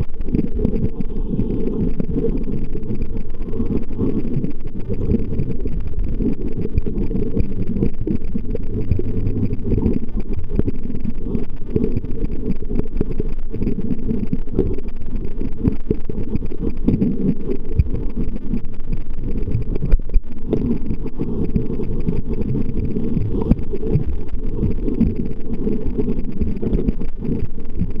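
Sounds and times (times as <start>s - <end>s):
muffled underwater rumble: 0.0s - 28.0s.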